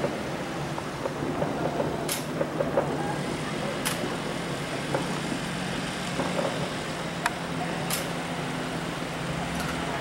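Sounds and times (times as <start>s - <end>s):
sharp firework pops: 0.0s - 8.2s
distant fireworks rumble: 0.0s - 10.0s.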